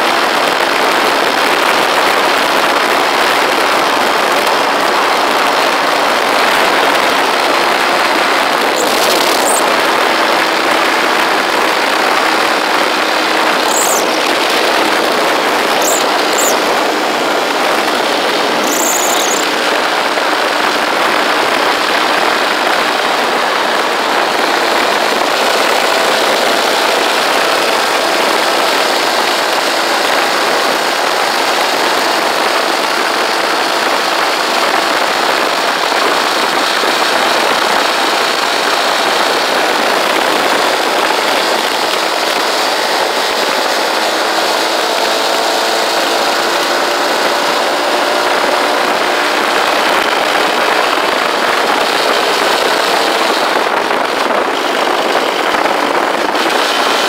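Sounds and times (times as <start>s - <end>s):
motorcycle engine drone: 0.0s - 57.0s
wind rushing on microphone: 0.0s - 57.0s.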